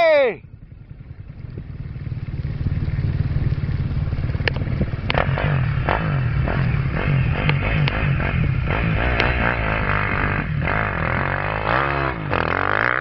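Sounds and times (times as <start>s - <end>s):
motocross bike engine revving: 0.5s - 13.0s.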